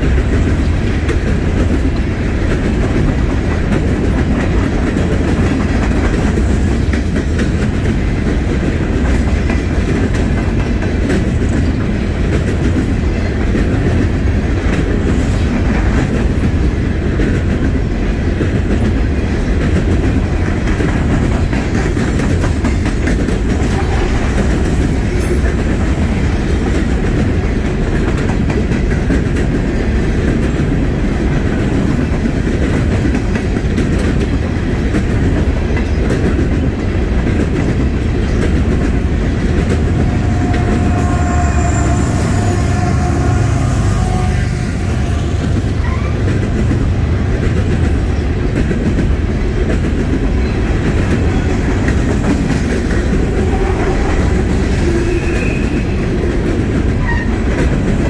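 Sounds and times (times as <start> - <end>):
train wheels rumbling on rails: 0.0 - 58.0
wheels clacking over rail joints: 0.0 - 58.0.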